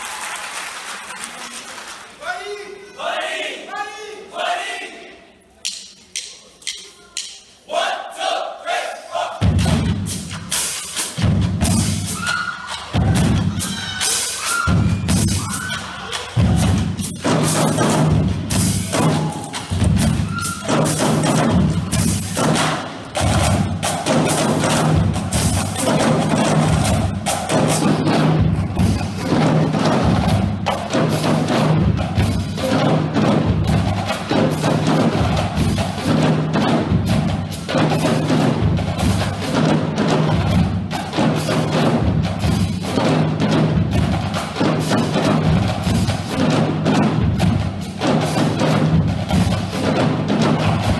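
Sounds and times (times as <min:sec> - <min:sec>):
snare and tenor drums: 0:09.2 - 0:50.9.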